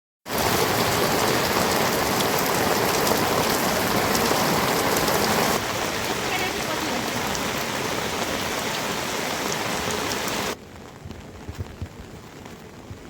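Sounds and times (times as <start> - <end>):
heavy rain: 0.2 - 13.0.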